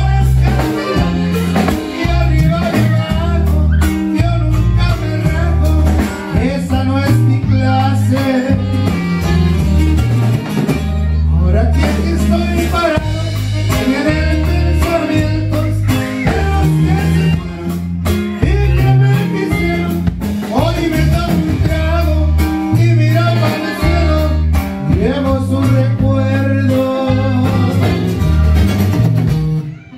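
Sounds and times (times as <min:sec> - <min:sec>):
button accordion melody: 0:00.0 - 0:29.4
acoustic guitar: 0:00.0 - 0:29.9
drum kit beat: 0:00.0 - 0:29.9
electric bass: 0:00.0 - 0:29.9.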